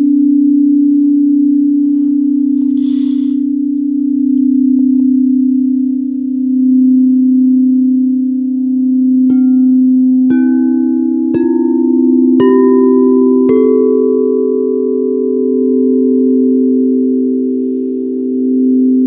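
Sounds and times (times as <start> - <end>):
deep singing bowl ringing: 0.0 - 19.0.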